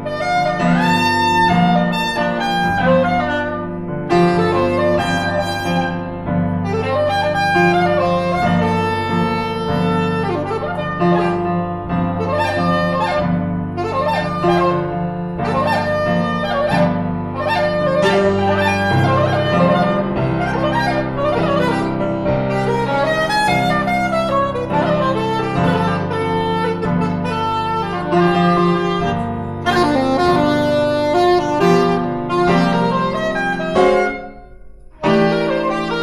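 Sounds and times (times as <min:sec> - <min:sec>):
piano chords: 0:00.0 - 0:36.0
soprano saxophone melody: 0:00.0 - 0:36.0.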